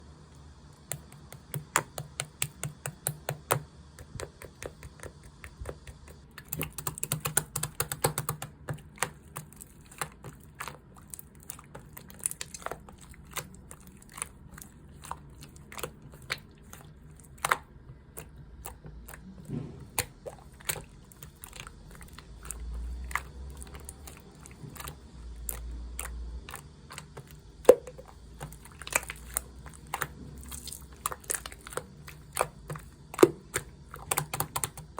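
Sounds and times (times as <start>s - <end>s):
slime clicking and popping: 0.8s - 19.2s, 19.9s - 34.9s.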